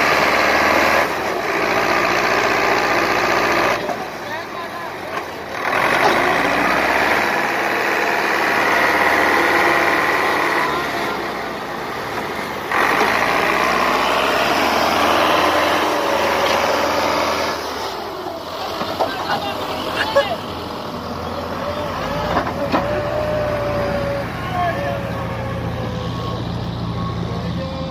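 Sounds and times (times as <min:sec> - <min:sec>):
tractor diesel engine under load: 0:00.0 - 0:27.9.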